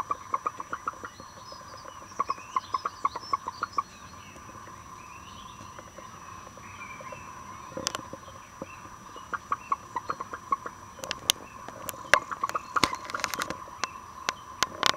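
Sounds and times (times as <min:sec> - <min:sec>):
hen clucking: 0:00.0 - 0:13.9
faint steady hum: 0:00.0 - 0:14.9.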